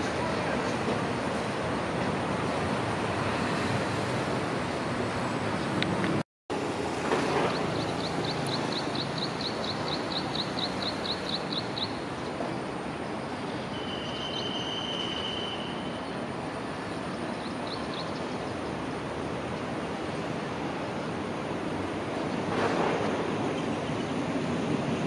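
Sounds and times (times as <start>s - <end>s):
train rumble and hiss: 0.0s - 25.0s.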